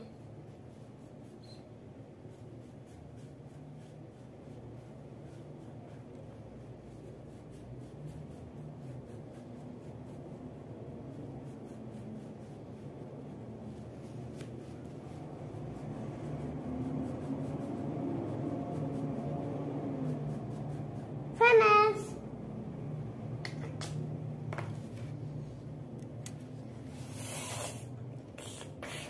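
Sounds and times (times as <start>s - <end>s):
crayon scratching on paper: 0.0s - 21.9s, 27.0s - 29.0s.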